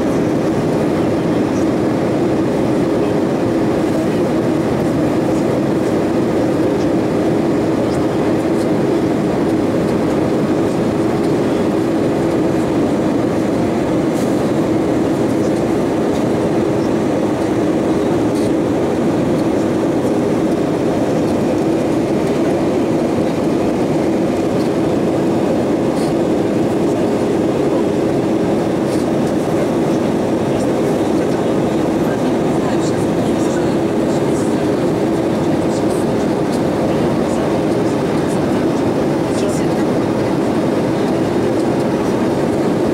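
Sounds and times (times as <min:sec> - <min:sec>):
airplane cabin airflow and engine drone: 0:00.0 - 0:42.9.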